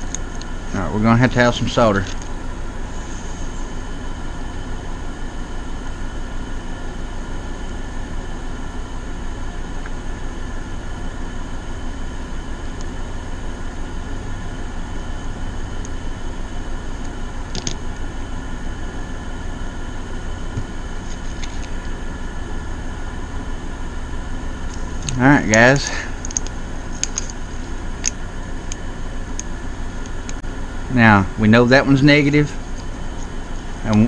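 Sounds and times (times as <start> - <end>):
air conditioners droning: 0.0 - 34.0.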